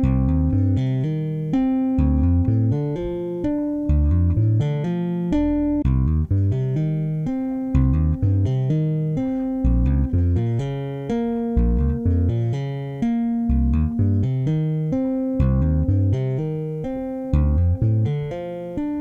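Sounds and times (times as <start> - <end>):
electric bass arpeggios: 0.0 - 19.0.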